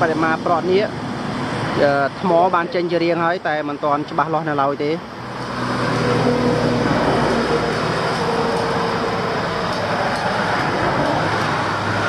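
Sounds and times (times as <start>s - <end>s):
heavy vehicle engine hum: 0.0s - 12.0s
traffic engine and tyre rush: 0.0s - 12.0s.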